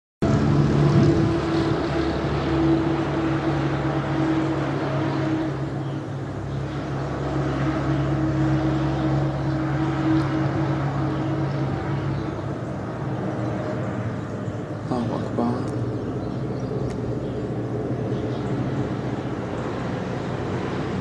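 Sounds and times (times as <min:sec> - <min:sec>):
engine drone: 0:00.2 - 0:21.0.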